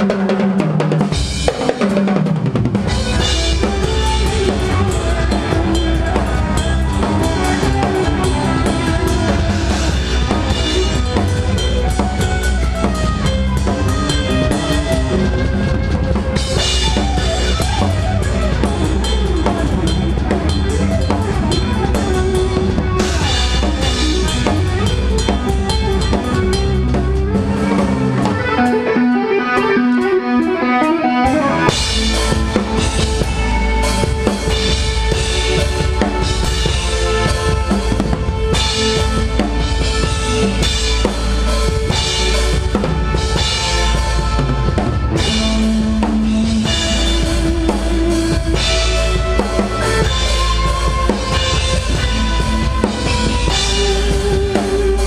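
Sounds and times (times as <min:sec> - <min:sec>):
rock drum solo: 0:00.0 - 0:55.0.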